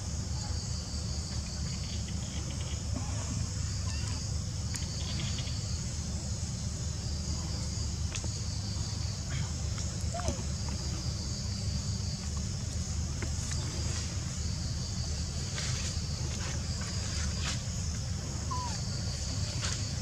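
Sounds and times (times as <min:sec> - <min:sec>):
insects droning: 0:00.0 - 0:20.0
low steady rumble: 0:00.0 - 0:20.0.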